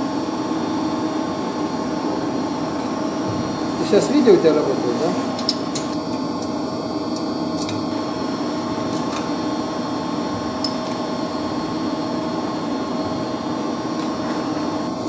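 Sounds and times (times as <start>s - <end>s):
heating machinery humming: 0.0s - 15.0s.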